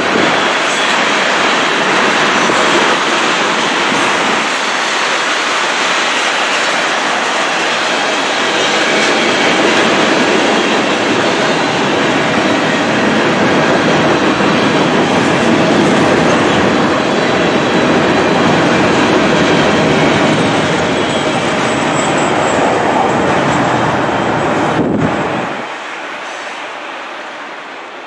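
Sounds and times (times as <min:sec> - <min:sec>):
steel wheels rolling on rails: 0:00.0 - 0:27.4.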